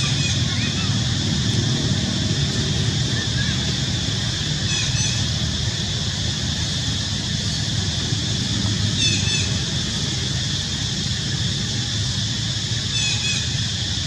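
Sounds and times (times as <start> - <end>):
constant high hiss: 0.0 - 14.0.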